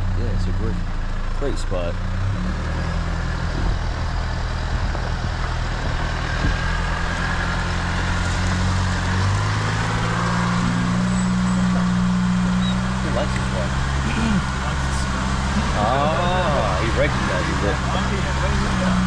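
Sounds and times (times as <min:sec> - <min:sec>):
vehicle engine running at low speed: 0:00.0 - 0:19.0.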